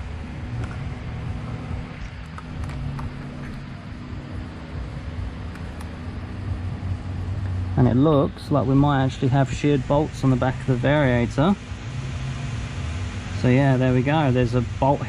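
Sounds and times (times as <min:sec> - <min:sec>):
background hiss: 0:00.0 - 0:15.0
low mechanical hum: 0:00.0 - 0:15.0.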